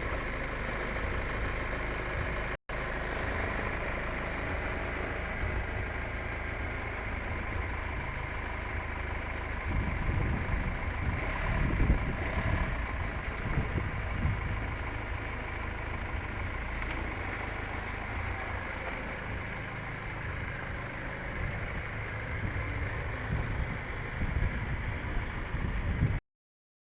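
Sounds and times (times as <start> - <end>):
car engine idling: 0.0 - 26.2.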